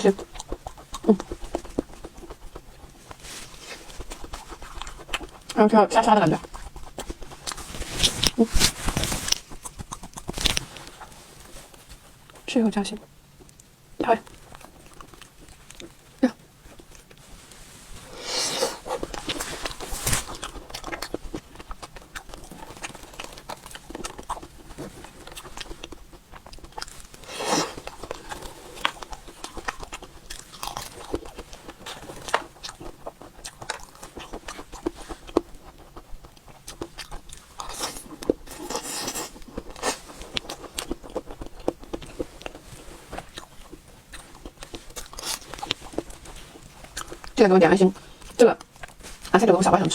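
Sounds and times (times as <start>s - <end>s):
chewing and wet mouth sounds: 0.0s - 49.9s
crackles and clicks: 0.0s - 49.9s.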